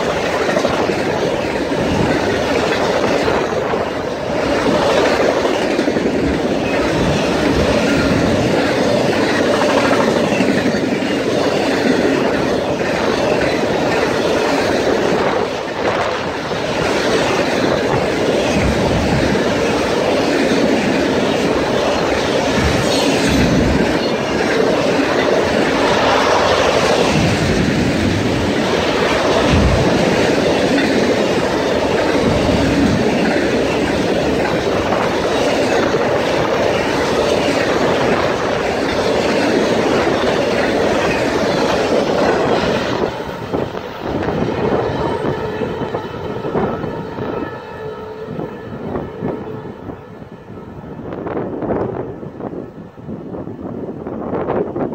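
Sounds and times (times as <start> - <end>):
clickety-clack over rail joints: 0.0 - 54.9
train wheels rushing on rail: 0.0 - 54.9
wind off passing train: 0.0 - 54.9.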